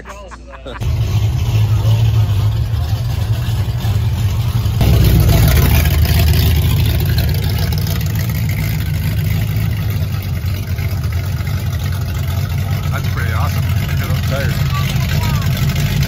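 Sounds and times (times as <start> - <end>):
car engine exhaust rumble: 0.8 - 16.0.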